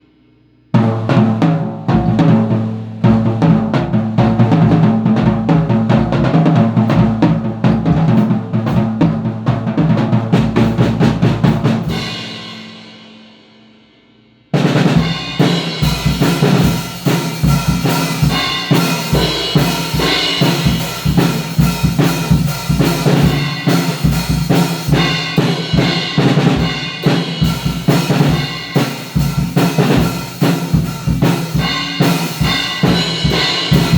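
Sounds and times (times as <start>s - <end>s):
drum kit playing: 0.6s - 13.5s, 14.5s - 33.9s.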